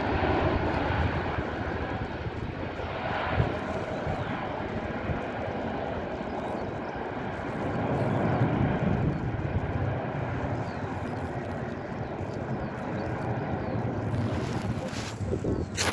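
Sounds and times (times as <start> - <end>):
jet engine rumble: 0.0 - 15.9.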